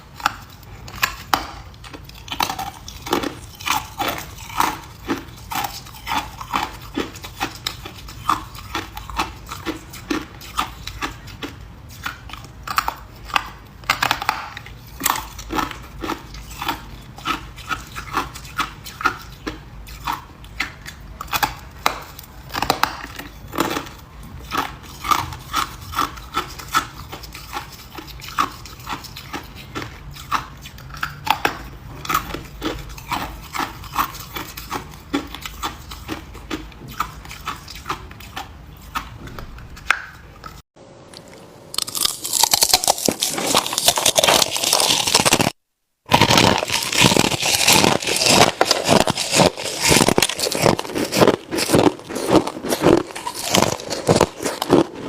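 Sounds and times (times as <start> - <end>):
person chewing ice: 0.0 - 55.0.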